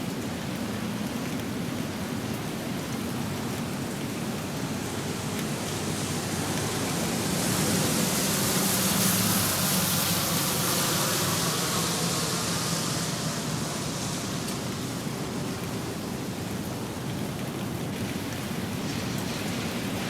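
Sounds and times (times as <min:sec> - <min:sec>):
rain hissing on pavement: 0:00.0 - 0:20.0
car passing on wet road: 0:00.1 - 0:20.0.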